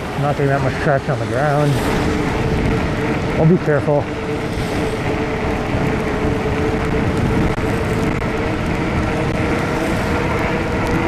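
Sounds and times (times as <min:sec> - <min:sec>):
steady whine: 0:00.0 - 0:11.0
wind and tyre rumble: 0:00.0 - 0:11.0.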